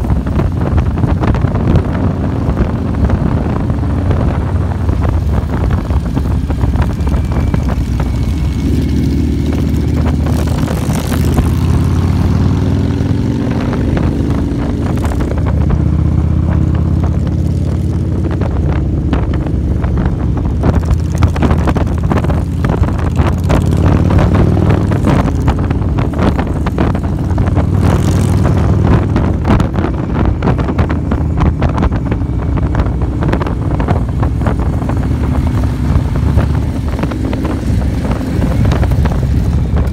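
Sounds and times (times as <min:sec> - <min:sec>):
motorcycle engine rumbling: 0:00.0 - 0:39.9
wind buffeting microphone: 0:00.0 - 0:39.9.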